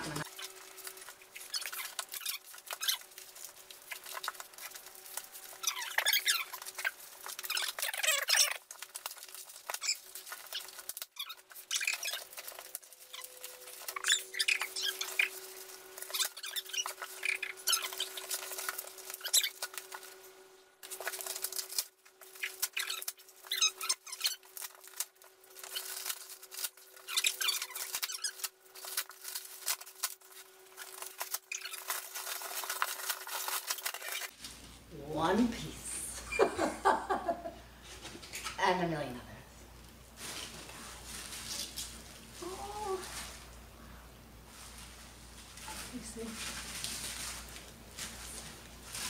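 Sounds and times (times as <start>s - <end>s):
foam packing squeaking and crackling: 0.0s - 34.9s, 40.1s - 43.8s, 44.4s - 49.0s.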